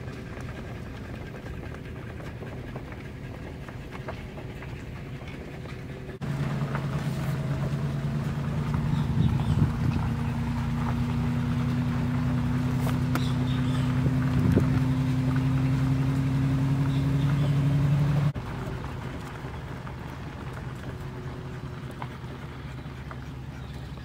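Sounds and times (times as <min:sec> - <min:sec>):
moving vehicle rumble: 0:00.0 - 0:24.0
vehicle engine hum: 0:00.0 - 0:24.0.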